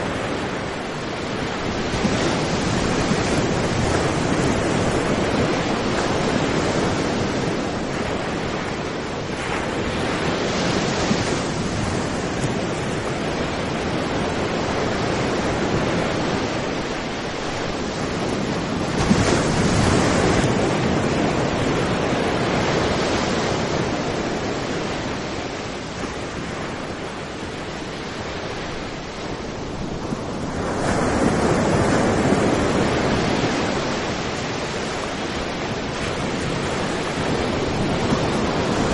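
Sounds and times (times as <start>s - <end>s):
waves breaking on beach: 0.0s - 38.9s.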